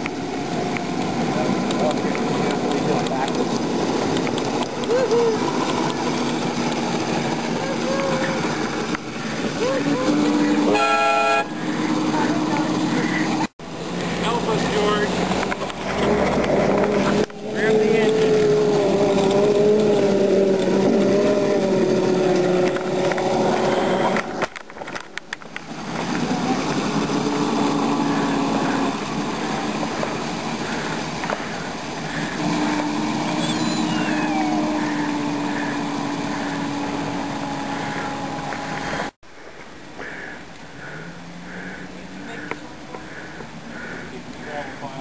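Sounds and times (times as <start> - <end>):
miniature locomotive drone: 0.0 - 45.0.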